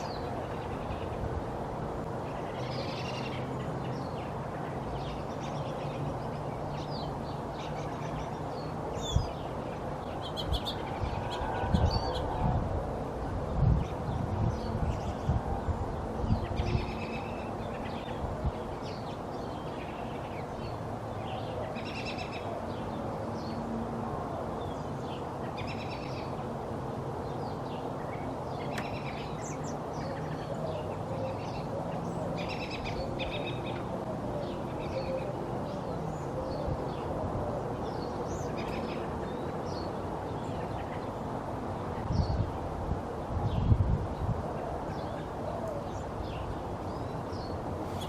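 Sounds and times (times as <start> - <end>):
robins chirping and singing: 0.0 - 23.8, 24.4 - 48.0.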